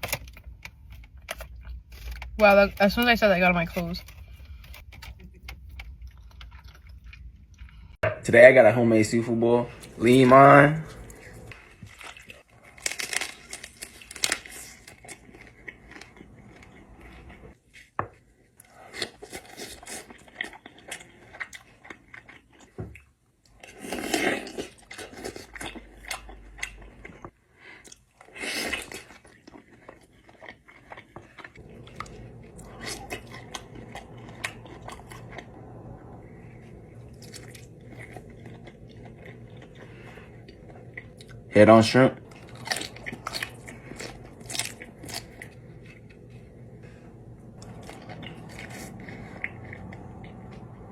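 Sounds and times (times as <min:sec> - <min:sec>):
chewing and crunching seafood: 0:00.0 - 0:08.0, 0:09.8 - 0:50.9.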